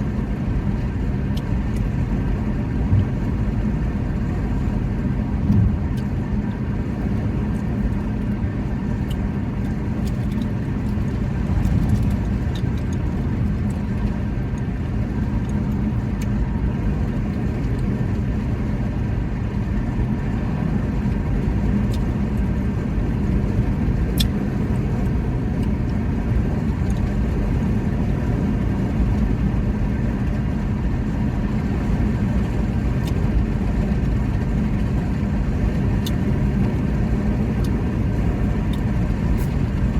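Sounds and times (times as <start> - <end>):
low rumble with hum: 0.0 - 39.9.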